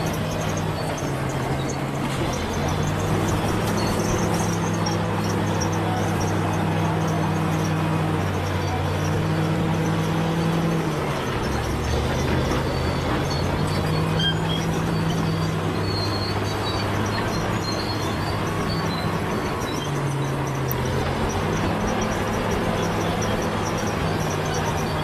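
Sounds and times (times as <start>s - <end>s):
bulldozer engine running: 0.0s - 25.0s.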